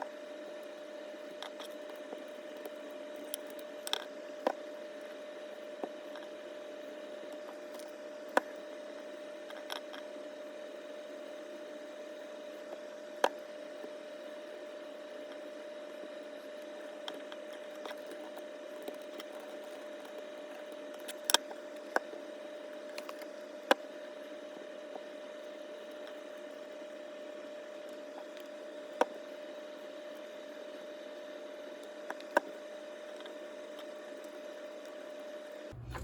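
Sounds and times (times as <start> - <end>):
steady hum with held tone: 0.0 - 36.0.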